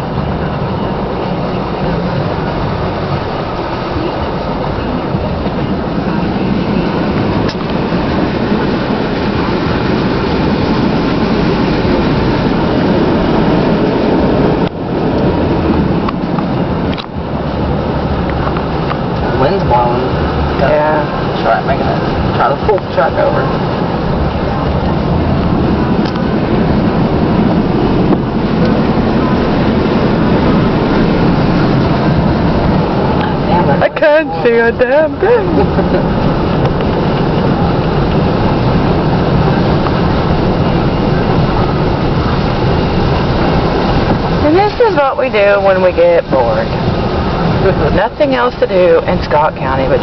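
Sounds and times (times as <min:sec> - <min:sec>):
strong wind buffeting microphone: 0:00.0 - 0:50.0
truck engine running: 0:00.0 - 0:50.0.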